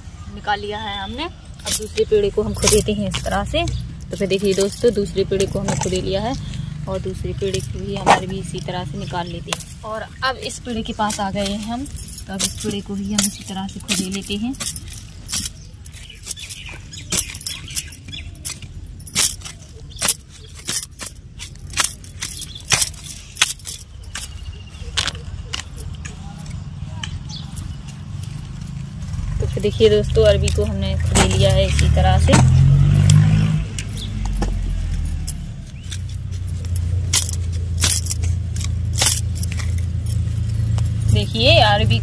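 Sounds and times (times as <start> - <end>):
bangles clinking: 1.0 - 42.0
hand tool chopping dry soil: 1.6 - 6.7, 10.9 - 28.4, 29.9 - 42.0.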